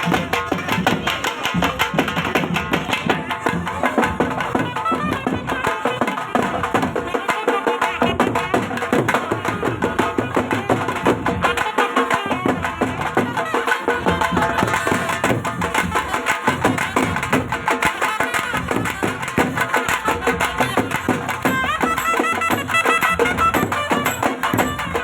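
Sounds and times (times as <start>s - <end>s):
brisk percussion beat: 0.0s - 25.0s
folk melody: 0.0s - 25.0s.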